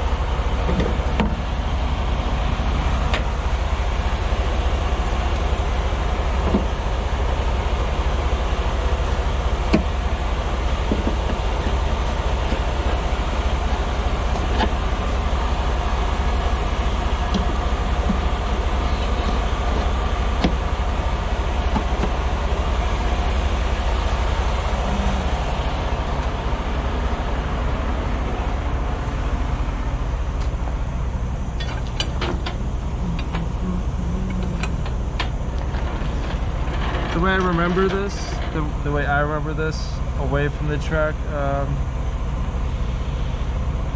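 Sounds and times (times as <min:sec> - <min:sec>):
diesel truck engine rumbling: 0:00.0 - 0:43.9.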